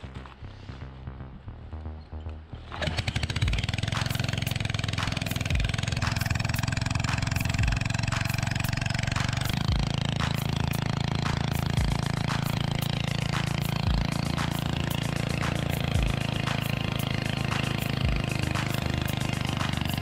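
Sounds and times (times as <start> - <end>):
small generator engine running: 2.7 - 20.0.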